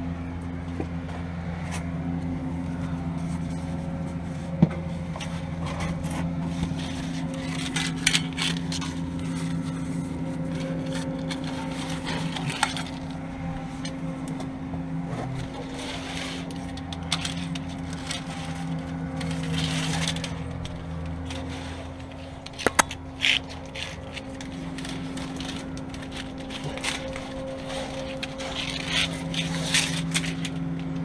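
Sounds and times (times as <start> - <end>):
steady low hum: 0.0 - 31.0
cable scraping and clicking: 4.7 - 14.5, 15.1 - 31.0.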